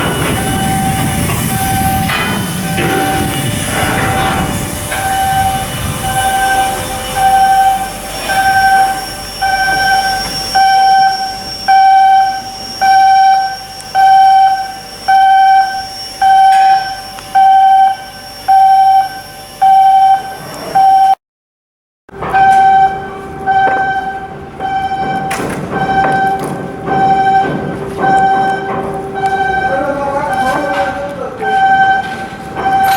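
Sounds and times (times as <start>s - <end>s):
electronic warning beeps: 0.0s - 21.2s, 22.2s - 32.9s
faint machinery noise: 0.0s - 21.2s, 22.1s - 32.9s.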